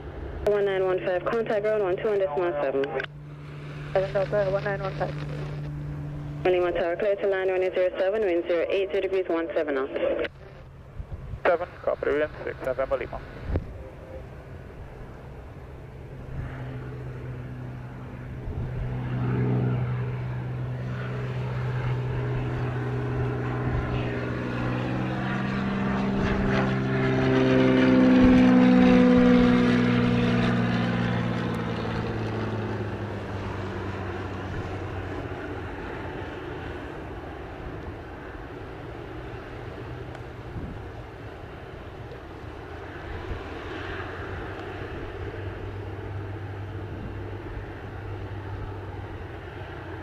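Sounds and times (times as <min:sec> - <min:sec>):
propeller plane flying overhead: 0:00.0 - 0:50.0.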